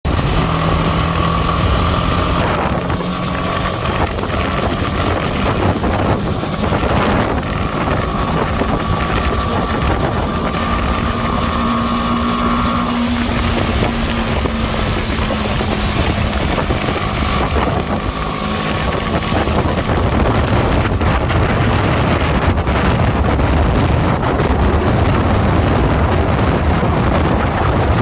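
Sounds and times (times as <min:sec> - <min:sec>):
motorcycle engine drone: 0:00.0 - 0:28.0
wind buffeting microphone: 0:00.0 - 0:28.0.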